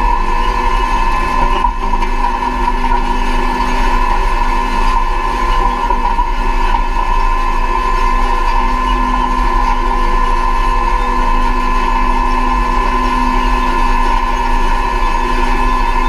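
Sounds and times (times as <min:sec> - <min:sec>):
constant whine: 0:00.0 - 0:16.0
seed drill running: 0:00.0 - 0:16.0.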